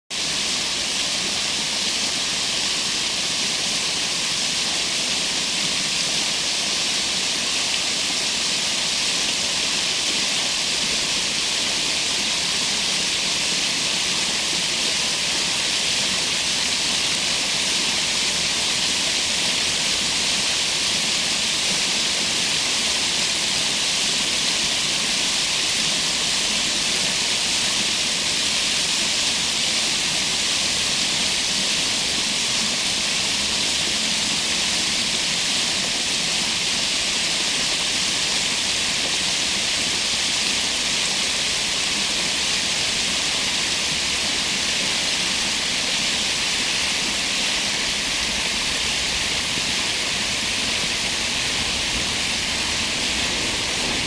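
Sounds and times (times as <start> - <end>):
water rushing over ledges: 0.1 - 54.0.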